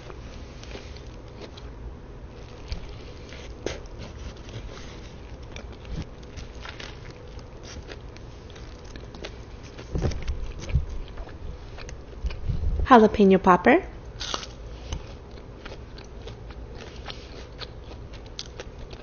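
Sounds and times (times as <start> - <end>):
person chewing crisp food: 0.1 - 12.5, 14.1 - 19.0.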